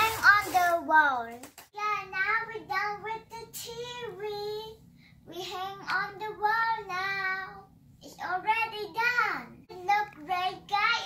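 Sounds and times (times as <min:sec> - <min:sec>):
girl singing: 0:01.8 - 0:11.0.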